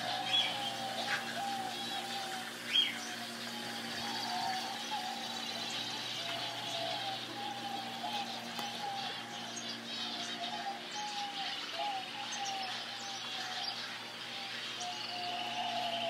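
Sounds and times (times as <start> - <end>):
birds chirping and chattering: 0.0 - 16.0.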